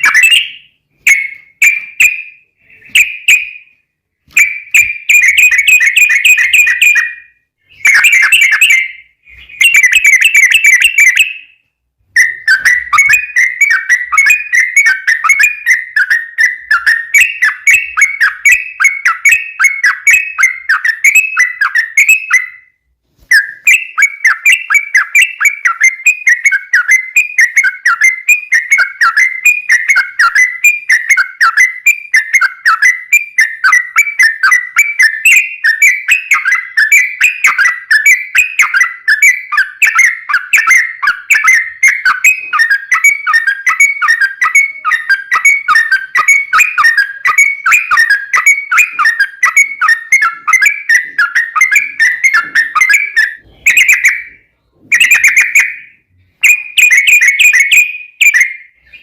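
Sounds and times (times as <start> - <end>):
bird singing bubbly whistles: 4.4 - 11.5, 12.2 - 59.0.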